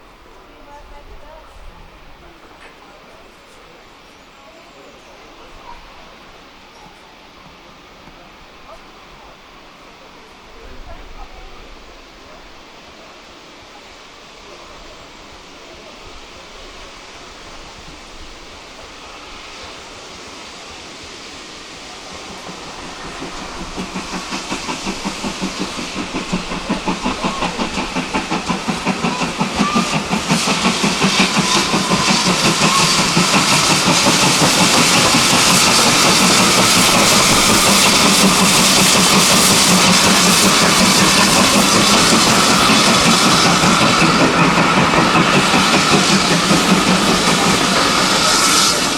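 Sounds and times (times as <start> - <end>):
train approaching: 0.0 - 48.9.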